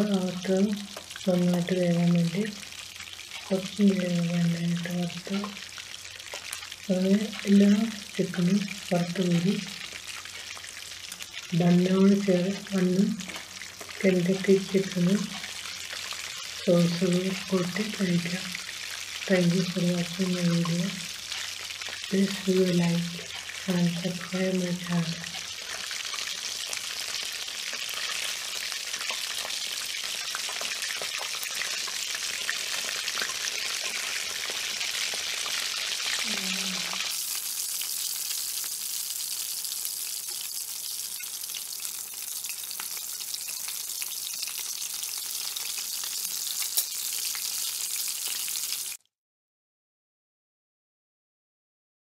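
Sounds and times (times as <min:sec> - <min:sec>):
food sizzling in hot oil: 0:00.0 - 0:49.1.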